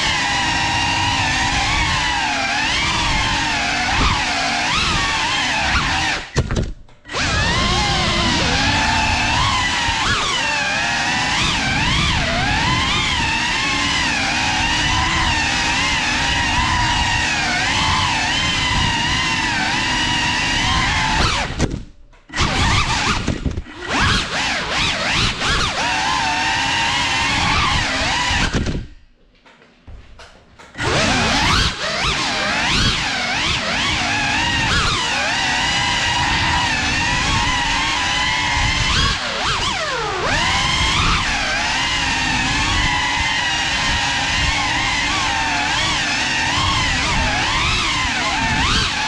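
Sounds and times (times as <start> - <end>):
drone motors whining: 0.0 - 29.0, 30.1 - 49.0.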